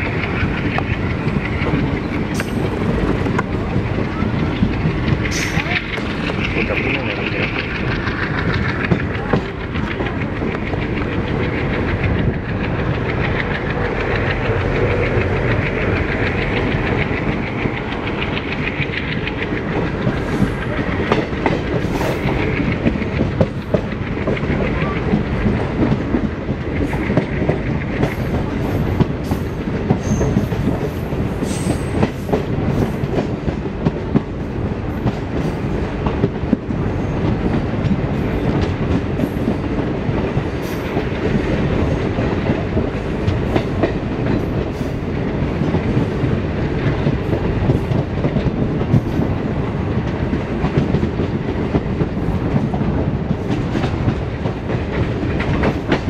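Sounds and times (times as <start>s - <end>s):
passing train coaches: 0.0s - 56.0s
train rumble: 0.0s - 56.0s
wheels clacking over rail joints: 0.0s - 56.0s.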